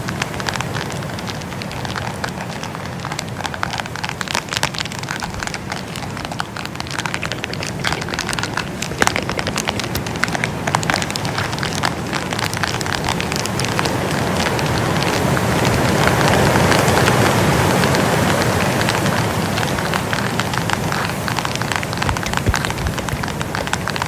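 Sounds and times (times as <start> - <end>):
soft crackles and clicks: 0.0 - 24.0
windy hiss: 0.0 - 24.0.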